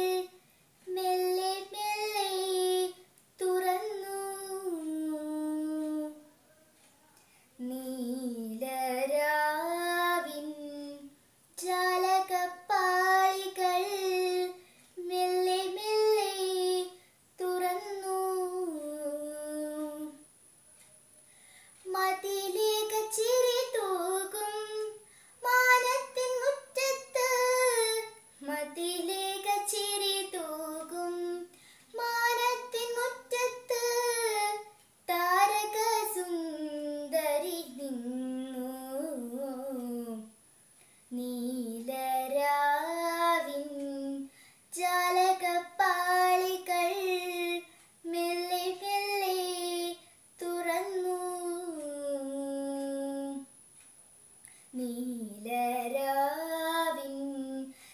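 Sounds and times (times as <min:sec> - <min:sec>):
girl singing unaccompanied: 0:00.0 - 0:53.8, 0:54.5 - 0:57.9.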